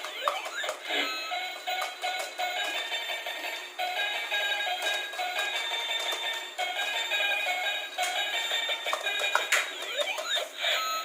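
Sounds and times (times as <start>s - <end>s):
toy playing beeping electronic tune: 0.0s - 11.0s.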